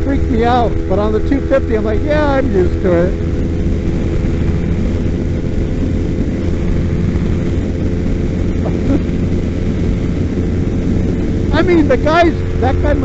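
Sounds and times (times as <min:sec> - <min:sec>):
motorcycle engine at high revs: 0:00.0 - 0:13.0
wind rumble: 0:00.0 - 0:13.0.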